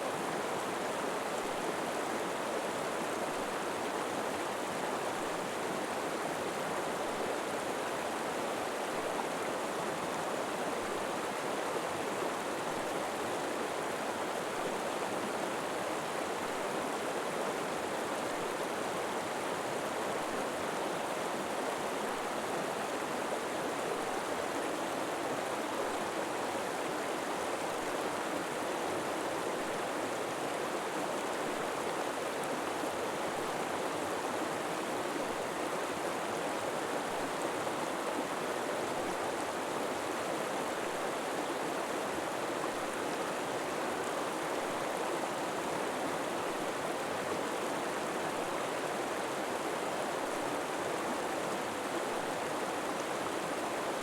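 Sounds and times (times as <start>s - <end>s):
river flowing over rocks: 0.1s - 54.0s.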